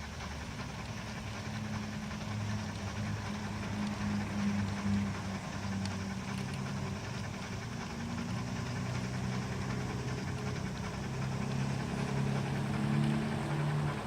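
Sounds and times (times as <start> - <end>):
model locomotive mechanical hum: 0.0 - 14.0.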